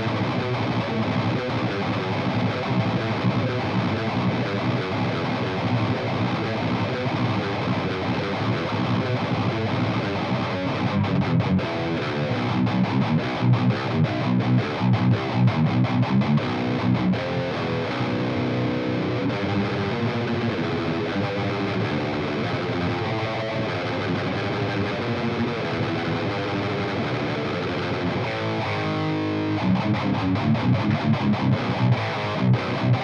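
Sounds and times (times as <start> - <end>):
distorted electric guitar riffing: 0.0 - 33.0.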